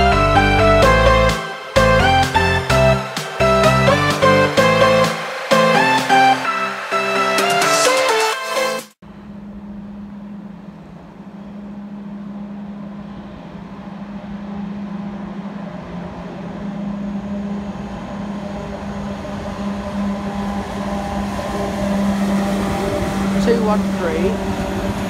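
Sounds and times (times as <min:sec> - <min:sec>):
electric train humming and rumbling: 0:00.0 - 0:25.0.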